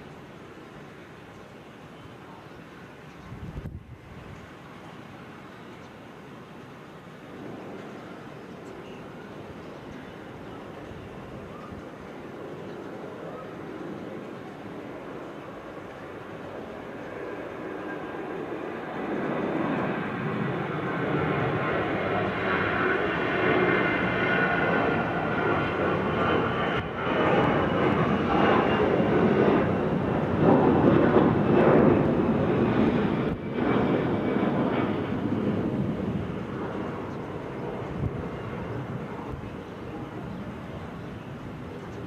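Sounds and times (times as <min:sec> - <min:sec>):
jet engines roaring at takeoff: 0:00.0 - 0:42.0.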